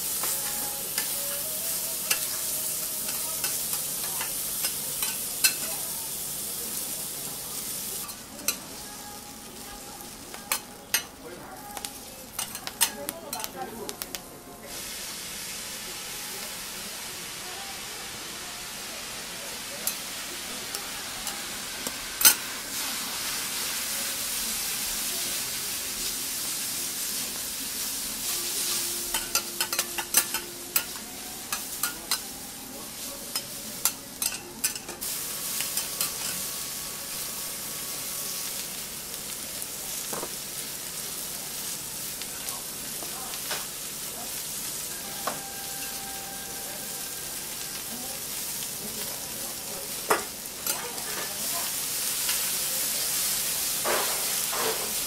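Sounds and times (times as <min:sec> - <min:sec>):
food sizzling on hot plate: 0:00.0 - 0:55.0.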